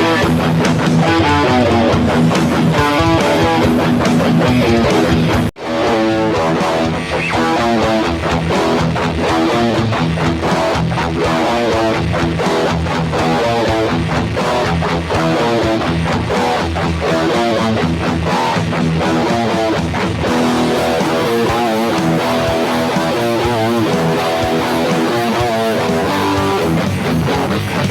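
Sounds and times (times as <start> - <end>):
distorted electric guitar riff: 0.0 - 27.9.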